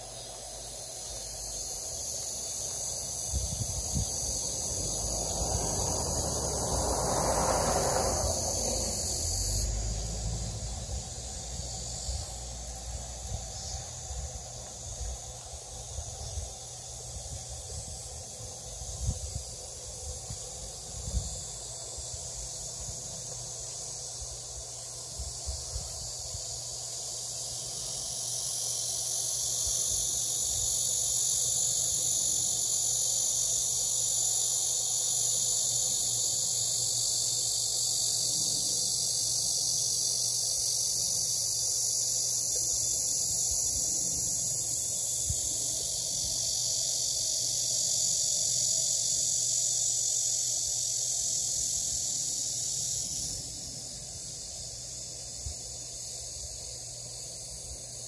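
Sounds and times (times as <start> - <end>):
insect chorus buzzing: 0.0 - 58.0.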